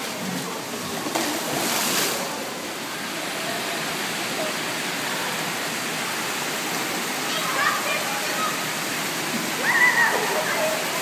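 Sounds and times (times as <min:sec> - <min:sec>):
pool water splashing: 0:00.0 - 0:11.0
water rushing: 0:00.0 - 0:11.0.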